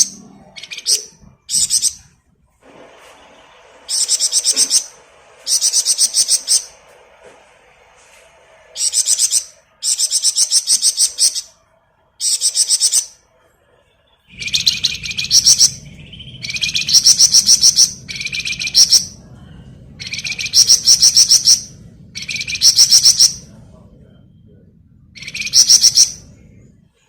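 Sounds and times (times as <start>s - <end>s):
songbird chattering song: 0.0s - 2.2s, 3.4s - 6.9s, 8.8s - 11.6s, 12.2s - 13.2s, 13.8s - 26.7s
faint low hum: 0.0s - 27.0s.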